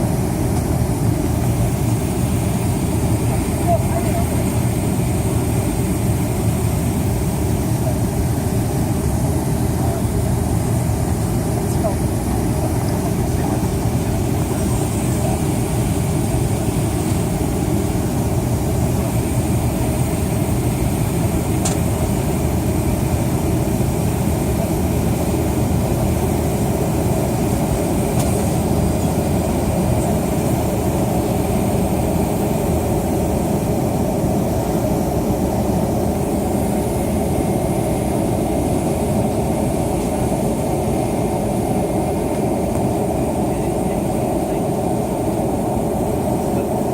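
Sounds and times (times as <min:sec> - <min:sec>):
jet engines at high power: 0:00.0 - 0:46.9.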